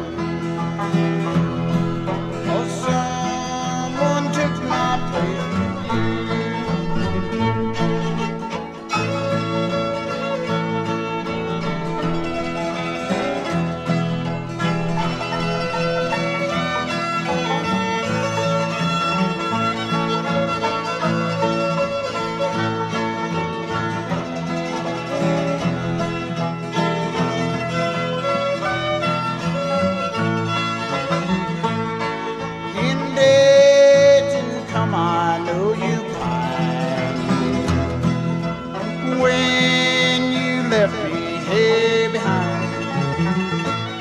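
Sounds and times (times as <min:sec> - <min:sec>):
bluegrass band playing: 0:00.0 - 0:44.0
fiddle: 0:00.0 - 0:44.0.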